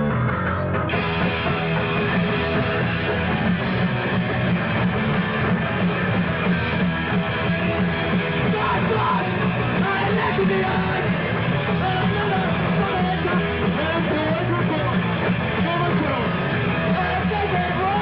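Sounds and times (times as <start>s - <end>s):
electric guitar: 0.0s - 18.0s
live punk band playing: 0.0s - 18.0s.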